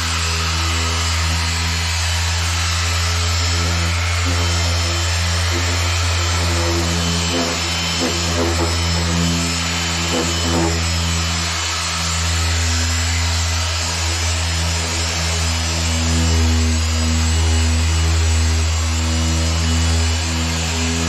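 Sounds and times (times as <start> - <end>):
electric polisher motor hum: 0.0 - 21.0.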